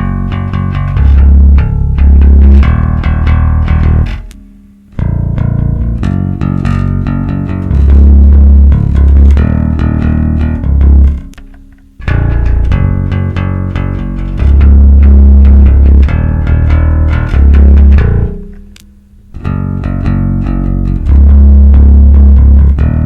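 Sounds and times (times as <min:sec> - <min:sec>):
electric bass guitar notes: 0:00.0 - 0:23.0.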